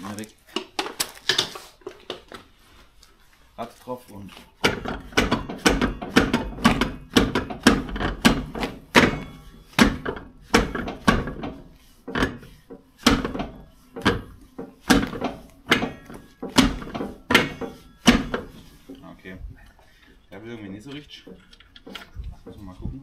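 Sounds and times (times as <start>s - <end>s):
wheel and brake drum clunking: 4.6s - 23.0s.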